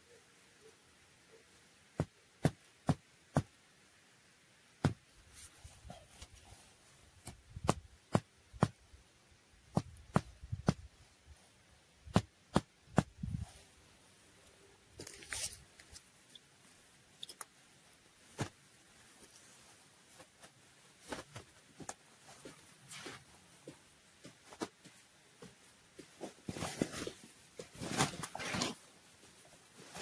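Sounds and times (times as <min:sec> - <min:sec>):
rustle: 0:00.0 - 0:30.0.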